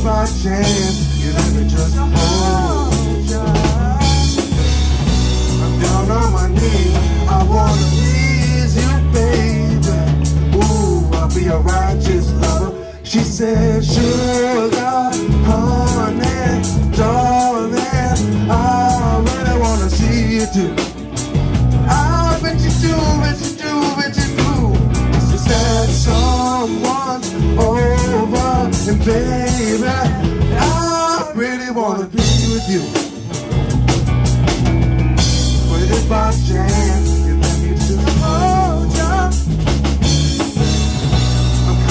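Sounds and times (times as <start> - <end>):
person singing: 0.0 - 20.9, 21.8 - 33.7, 35.2 - 39.6
bass guitar: 0.0 - 41.9
drum kit: 0.0 - 41.9
electric guitar: 0.0 - 41.9
keyboard: 0.0 - 41.9.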